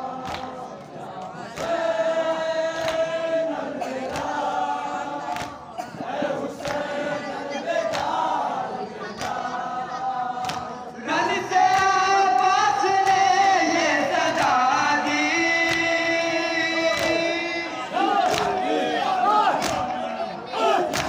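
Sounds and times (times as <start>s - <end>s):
men chanting in unison: 0.0s - 21.0s.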